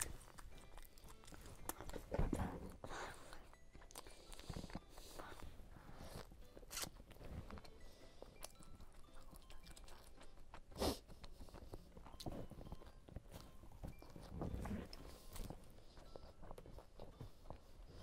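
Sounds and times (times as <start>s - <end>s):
biting and chewing roll: 0.0s - 18.0s.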